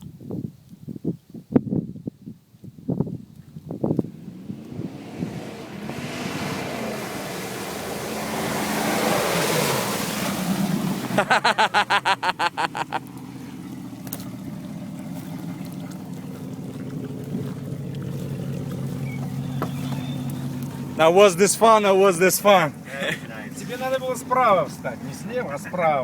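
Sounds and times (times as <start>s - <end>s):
water splashing: 3.5s - 26.0s
truck engine running: 3.6s - 26.0s.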